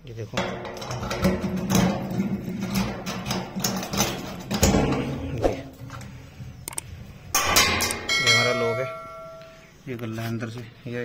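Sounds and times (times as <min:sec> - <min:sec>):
metallic clicks and knocks: 0:00.4 - 0:09.5.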